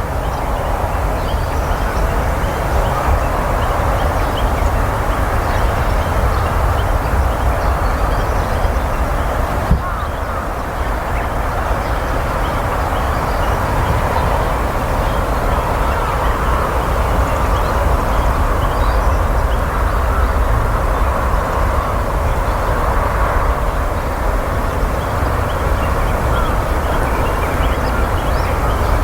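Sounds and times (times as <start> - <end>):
distant traffic rumble: 0.0 - 29.0.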